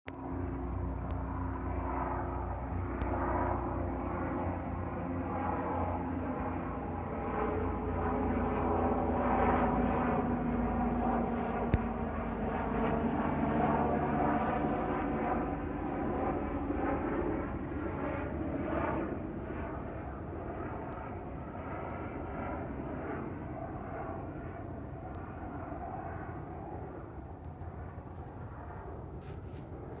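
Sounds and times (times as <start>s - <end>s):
helicopter turbine whine: 0.1s - 30.0s.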